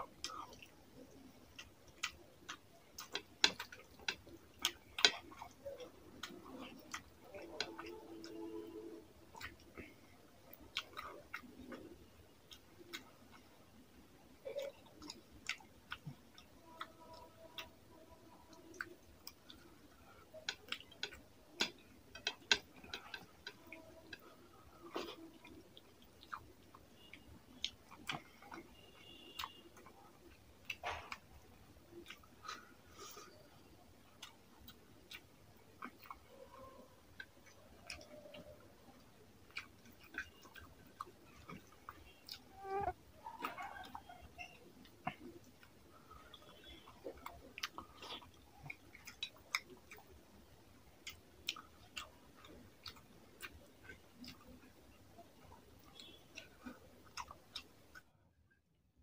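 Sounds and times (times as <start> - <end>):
eating rice by hand: 0.0 - 58.1.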